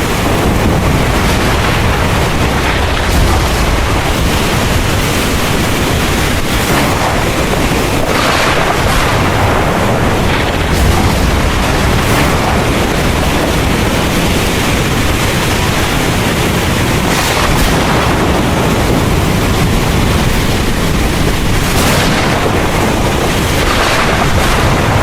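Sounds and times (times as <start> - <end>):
deep low rumble: 0.0 - 25.0
heavy rain pouring: 0.0 - 25.0.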